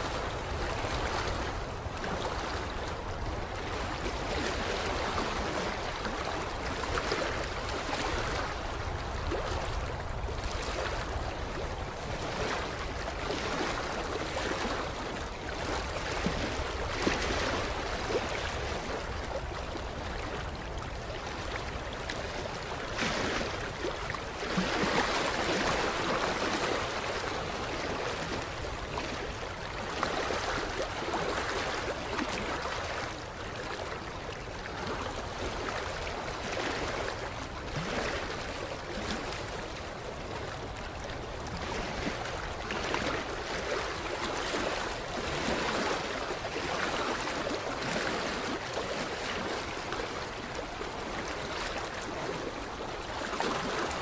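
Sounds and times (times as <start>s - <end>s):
small waves lapping shoreline: 0.0s - 54.0s.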